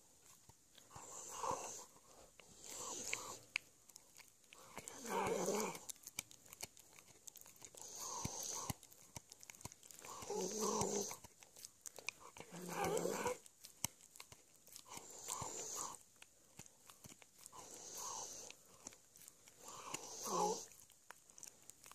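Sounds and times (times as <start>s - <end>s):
dog teeth crunching on bone: 0.0s - 21.9s
dog growling: 0.8s - 11.3s, 11.9s - 13.5s, 14.1s - 16.0s, 17.4s - 21.9s.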